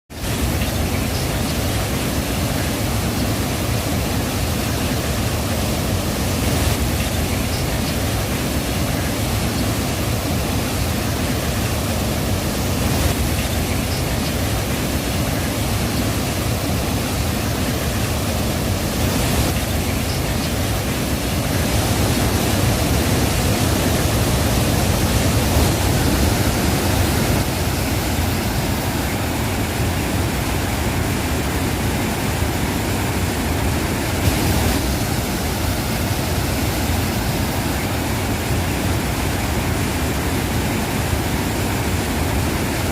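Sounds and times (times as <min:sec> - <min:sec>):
water rushing over a dam: 0:00.1 - 0:42.9.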